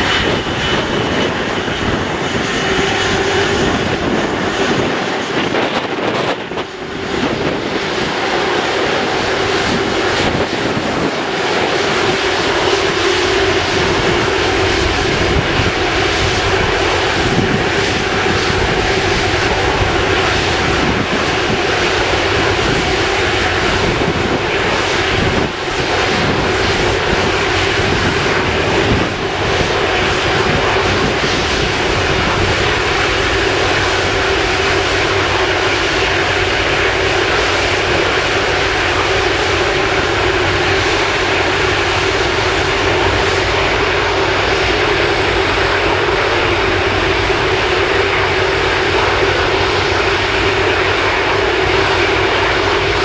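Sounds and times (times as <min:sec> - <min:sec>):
jet engines running with whine: 0:00.0 - 0:53.0.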